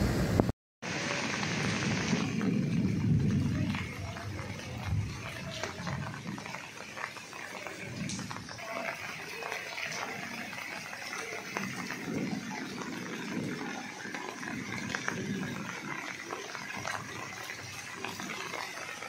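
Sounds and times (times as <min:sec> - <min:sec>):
rain falling on water: 0:00.2 - 0:19.0.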